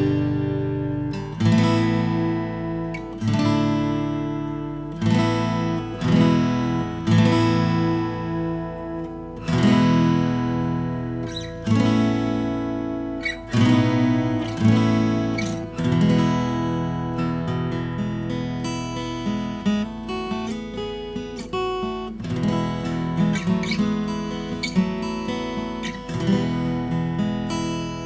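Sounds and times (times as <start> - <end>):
acoustic guitar strummed chords: 0.0 - 28.0.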